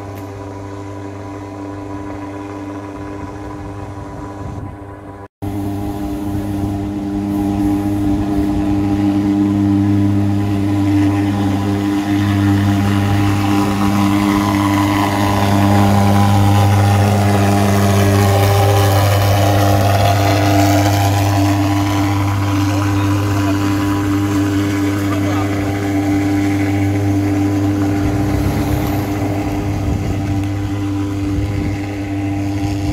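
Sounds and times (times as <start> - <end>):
fogging machine droning hum: 0.0 - 32.9.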